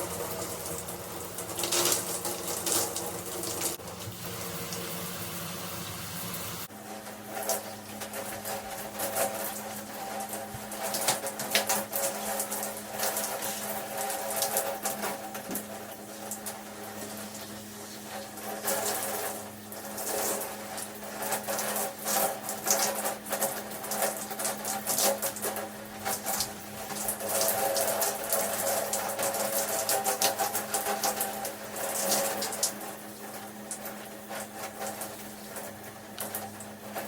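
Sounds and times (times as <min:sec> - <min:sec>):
shower water splattering: 0:00.0 - 0:06.7, 0:07.4 - 0:37.0.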